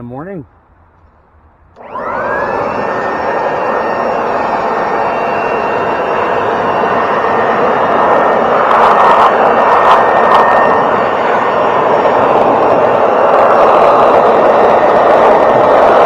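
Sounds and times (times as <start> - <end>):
air blower rushing air: 1.8 - 16.0.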